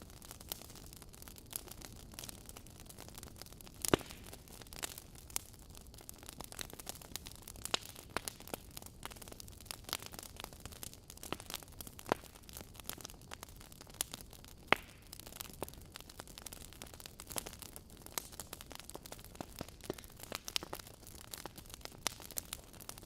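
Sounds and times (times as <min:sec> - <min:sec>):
logs crackling and popping: 0:00.0 - 0:23.0.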